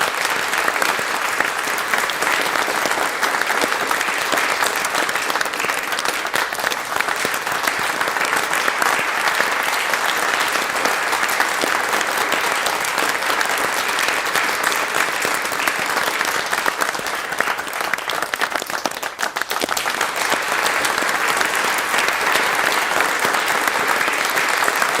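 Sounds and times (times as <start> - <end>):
crowd applauding: 0.0 - 25.0.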